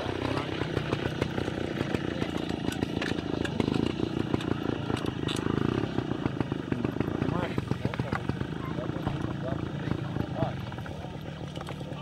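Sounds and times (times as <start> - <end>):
motorcycle engine putter: 0.0 - 9.4, 10.7 - 12.0.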